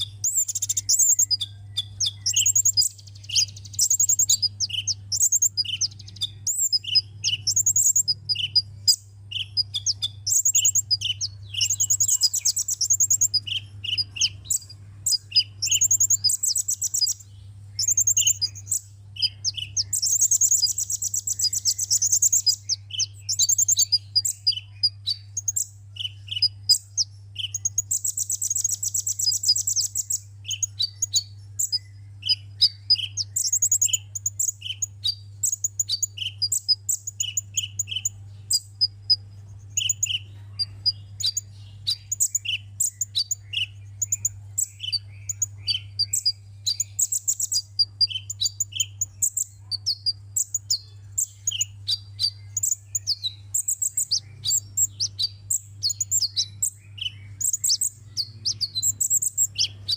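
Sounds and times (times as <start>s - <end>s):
bird chirping and trilling: 0.0s - 59.9s.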